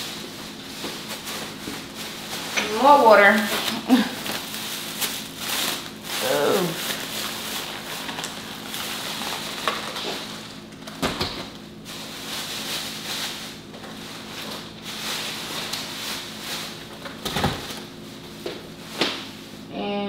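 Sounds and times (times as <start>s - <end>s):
paper bag rustling: 0.0s - 19.6s.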